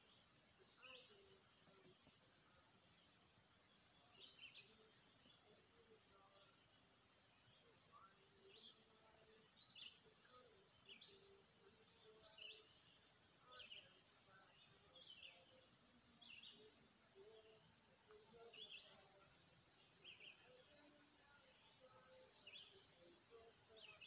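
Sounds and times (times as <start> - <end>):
bird chirping: 0.0 - 24.0
low background hiss: 0.0 - 24.0.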